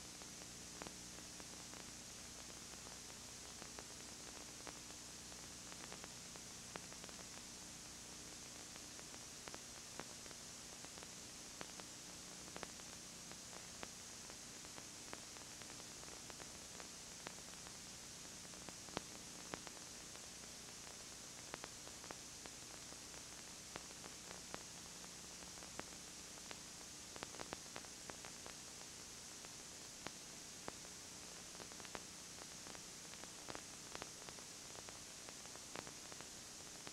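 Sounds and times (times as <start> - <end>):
tape hiss: 0.0 - 36.9
small clicks and crackles: 0.2 - 36.9.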